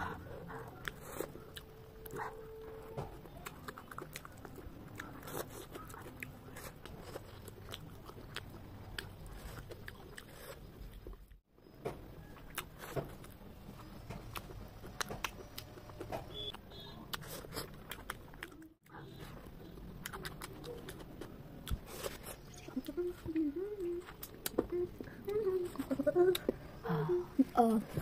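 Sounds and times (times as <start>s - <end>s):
chewing and crunching: 0.0s - 11.5s, 12.2s - 26.7s.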